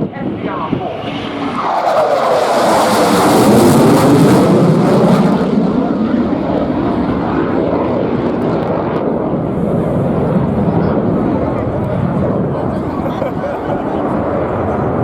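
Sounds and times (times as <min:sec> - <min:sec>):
jet engines in afterburner: 0:00.0 - 0:15.0.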